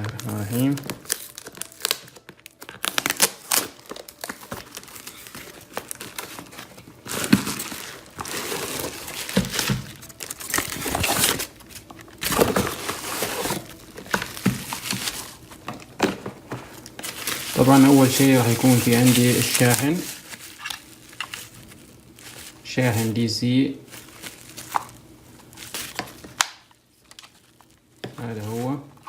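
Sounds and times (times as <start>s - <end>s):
packaging crinkling and tearing: 0.0s - 29.0s.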